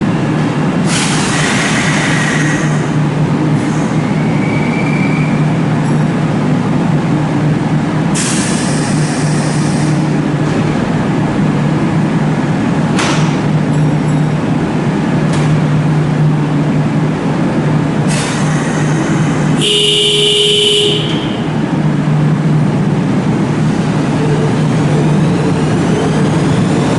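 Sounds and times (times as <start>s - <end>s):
electric train humming: 0.0s - 26.9s.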